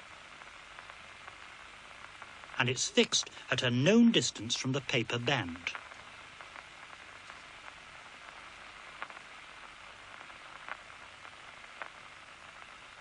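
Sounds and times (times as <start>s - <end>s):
faint soundtrack hiss: 0.0s - 13.0s.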